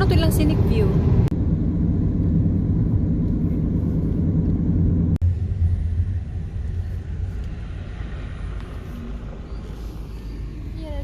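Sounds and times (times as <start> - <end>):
car road rumble from inside: 0.0 - 11.0.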